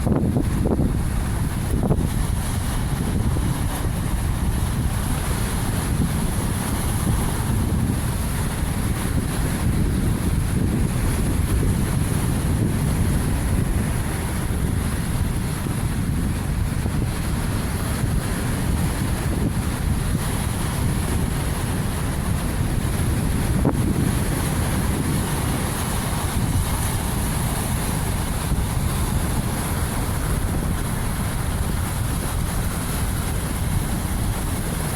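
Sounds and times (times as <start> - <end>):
waves washing on shore: 0.0 - 34.9
wind buffeting microphone: 0.0 - 34.9.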